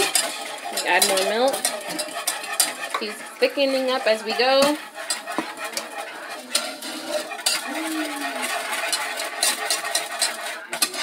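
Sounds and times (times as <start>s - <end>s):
whisk clicking and scraping pan: 0.0s - 11.0s.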